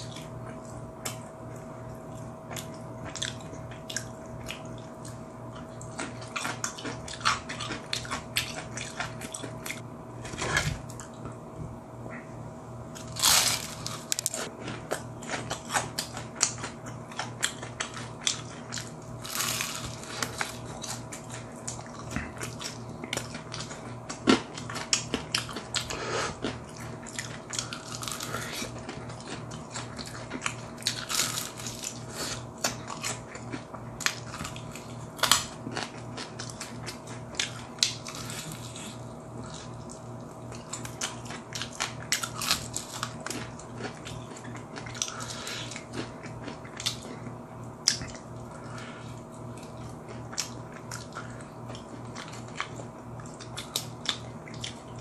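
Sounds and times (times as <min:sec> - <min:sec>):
faint steady hum: 0:00.0 - 0:55.0
crunching fried chicken: 0:02.2 - 0:11.1, 0:12.9 - 0:55.0.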